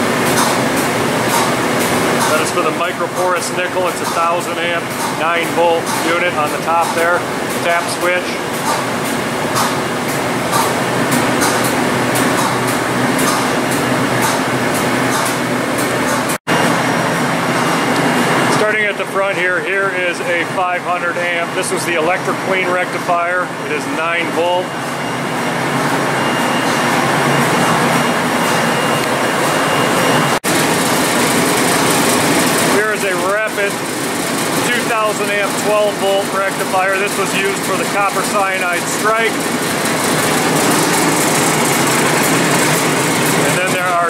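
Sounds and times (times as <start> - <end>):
fans and blowers running: 0.0 - 44.0.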